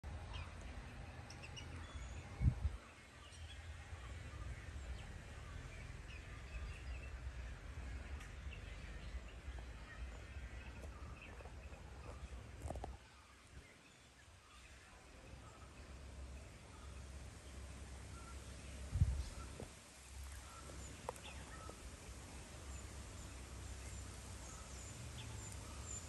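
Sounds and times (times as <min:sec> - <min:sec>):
birds chirping: 0:00.1 - 0:26.0.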